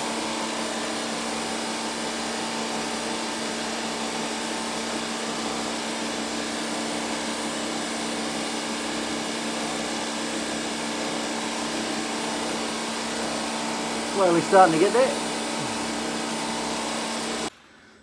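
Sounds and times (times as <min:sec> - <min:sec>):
electric motor whirring: 0:00.0 - 0:17.5.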